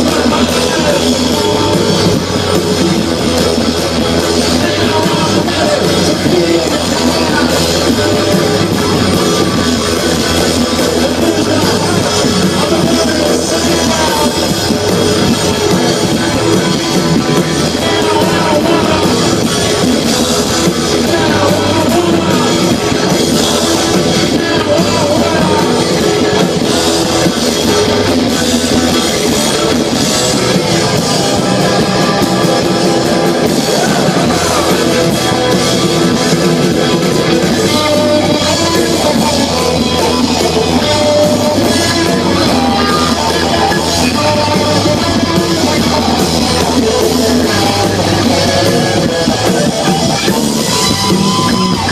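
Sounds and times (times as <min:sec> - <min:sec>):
drums: 0:00.0 - 0:51.9
loud electric guitars: 0:00.0 - 0:51.9
punk rock band playing: 0:00.0 - 0:51.9.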